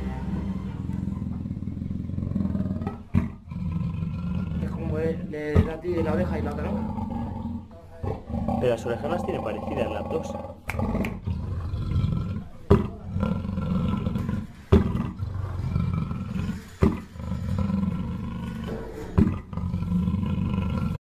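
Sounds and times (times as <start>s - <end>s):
big cat roaring: 0.0s - 21.0s.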